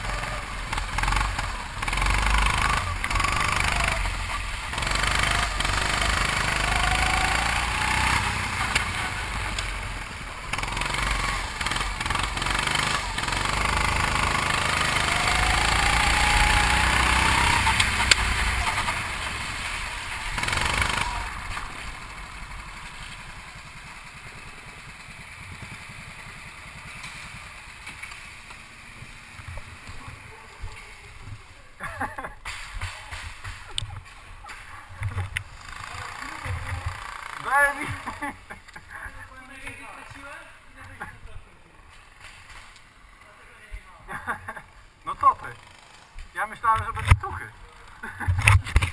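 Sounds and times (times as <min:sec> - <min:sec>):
go-kart engine revving: 0:00.0 - 0:43.2, 0:44.1 - 0:48.9.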